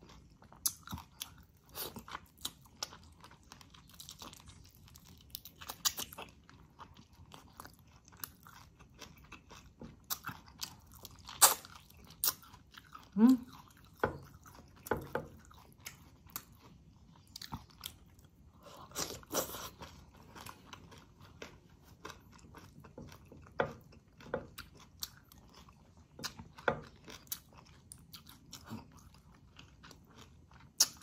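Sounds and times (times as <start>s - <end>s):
person chewing and smacking: 0.0s - 31.0s.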